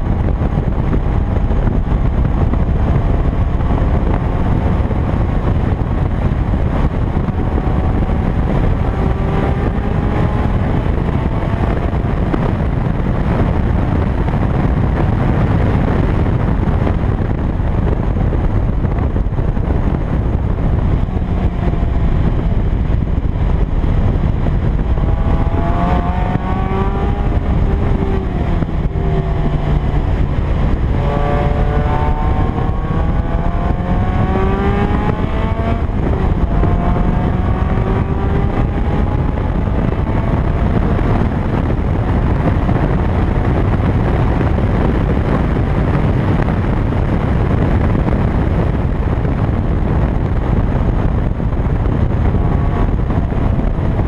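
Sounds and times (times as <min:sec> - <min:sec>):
car engine revving: 0:00.0 - 0:46.8
wind on microphone: 0:00.0 - 0:54.0.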